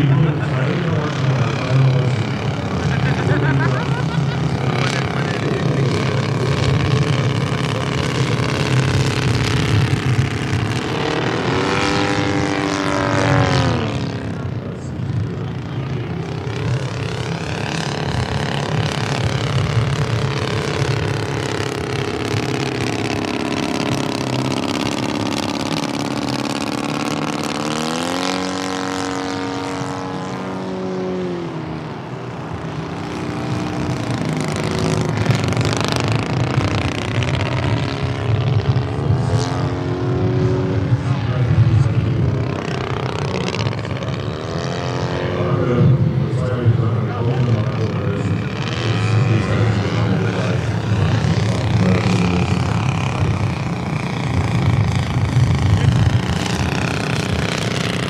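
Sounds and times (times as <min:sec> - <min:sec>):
model plane engine running: 0:00.0 - 0:58.0.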